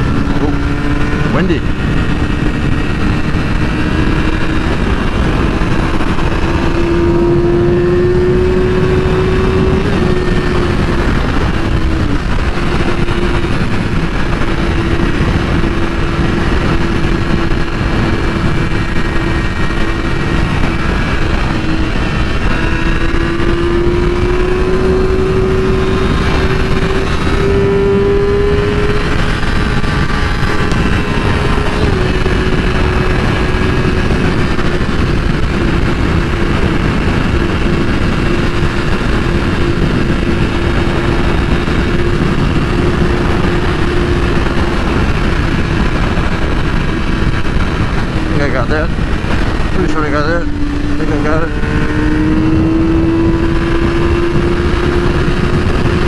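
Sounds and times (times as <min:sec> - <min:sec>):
motorcycle engine at high revs: 0:00.0 - 0:56.0
wind noise on microphone: 0:00.0 - 0:56.0.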